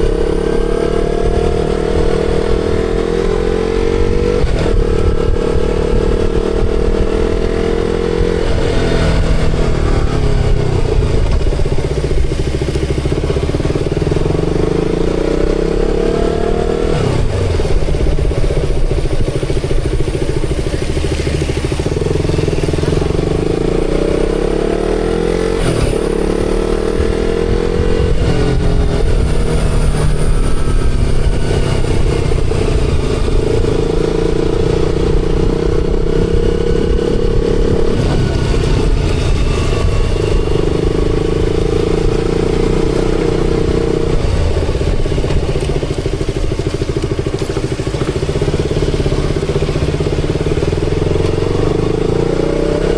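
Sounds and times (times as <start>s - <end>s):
motorcycle engine running: 0.0s - 52.9s
road and wind noise: 0.0s - 52.9s.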